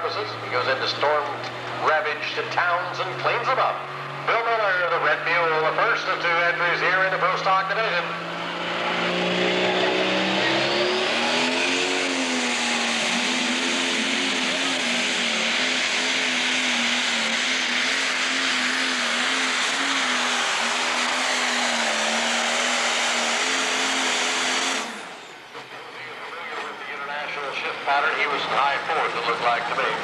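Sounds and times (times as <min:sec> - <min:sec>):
pulling tractor engine at full throttle: 0:00.0 - 0:30.0.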